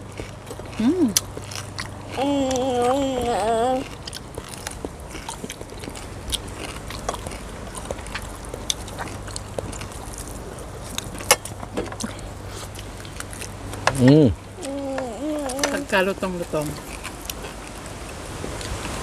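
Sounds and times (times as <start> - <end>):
chewing crispy food: 0.0 - 19.0.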